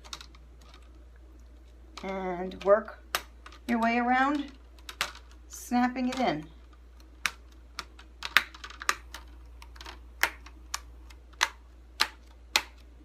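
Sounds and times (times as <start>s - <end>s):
plastic clips snapping: 1.9s - 5.4s, 6.0s - 13.0s.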